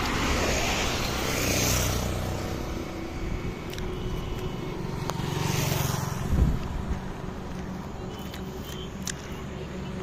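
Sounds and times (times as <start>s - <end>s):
highway traffic rumble: 0.0s - 10.0s.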